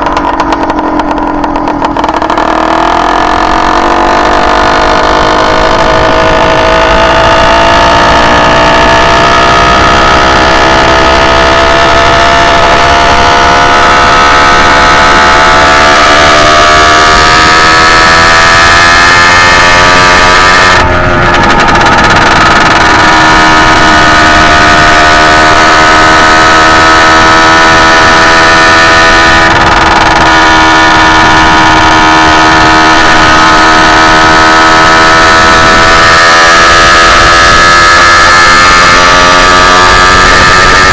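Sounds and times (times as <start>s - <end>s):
two-stroke bicycle engine running: 0.0s - 40.9s.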